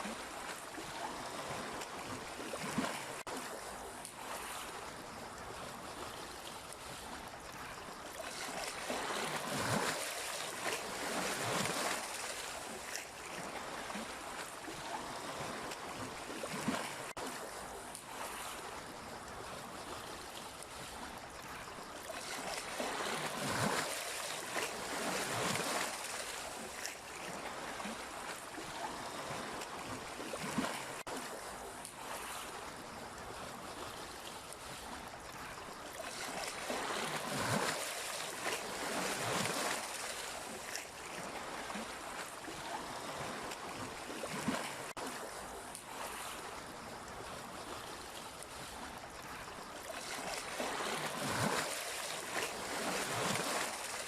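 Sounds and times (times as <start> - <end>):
sea waves washing ashore: 0.0 - 54.0.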